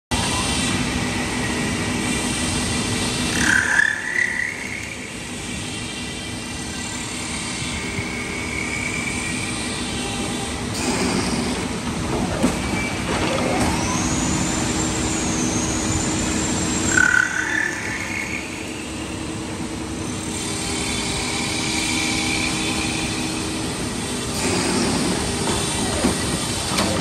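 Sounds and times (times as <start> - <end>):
high machine whine: 0.1 - 27.0
steady machine hum: 0.4 - 27.0.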